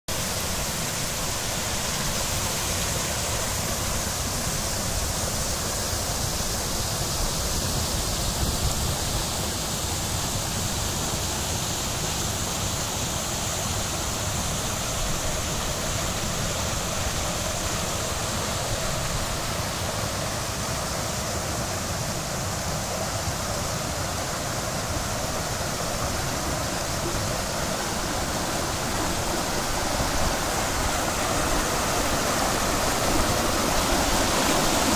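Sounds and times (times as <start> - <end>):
water cascading over stone steps: 0.1 - 34.9.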